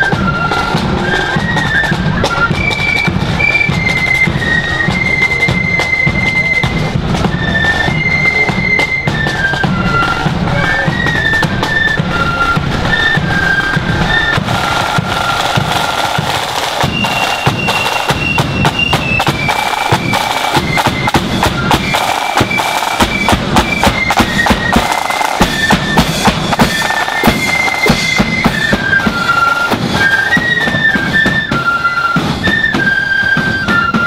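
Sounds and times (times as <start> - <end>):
snare and bass drums beat: 0.0 - 31.6
flutes playing melody in unison: 0.0 - 34.0.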